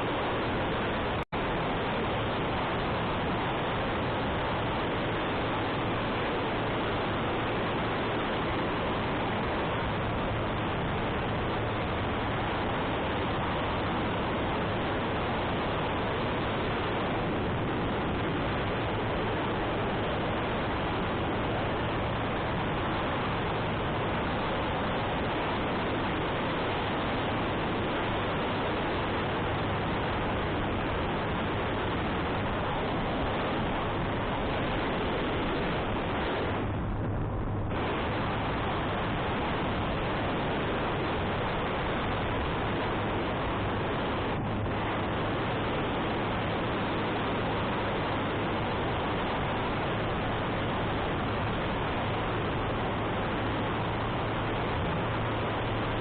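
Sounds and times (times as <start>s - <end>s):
motorcycle engine hum: 0.0s - 56.0s.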